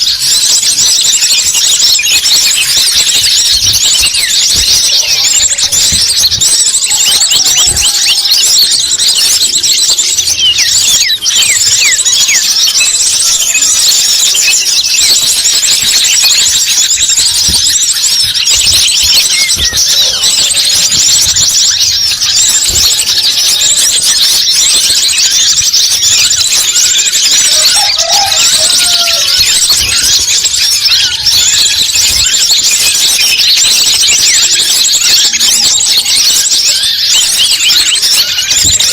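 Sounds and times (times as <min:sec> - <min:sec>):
lower bird calls: 0:00.0 - 0:38.9
small birds chirping: 0:00.0 - 0:38.9.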